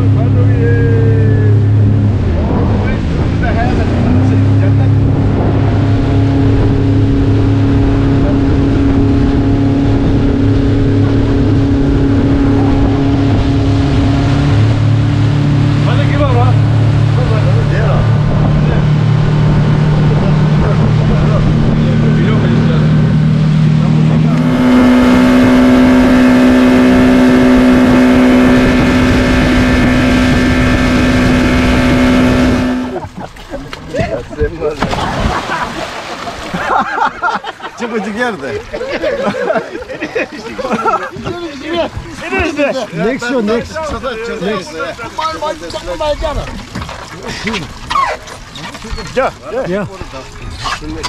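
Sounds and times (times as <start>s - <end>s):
motorboat engine humming: 0.0s - 51.0s.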